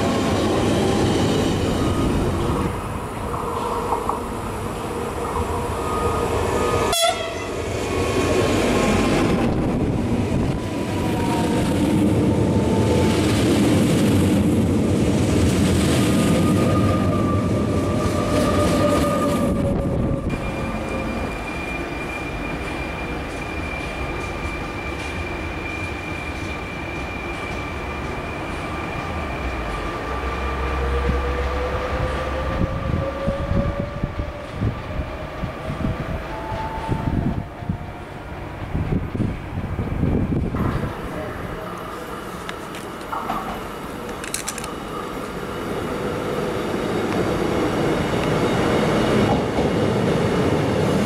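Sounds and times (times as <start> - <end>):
electric train passing at speed: 0.0 - 51.0
electric train whine: 0.0 - 51.0.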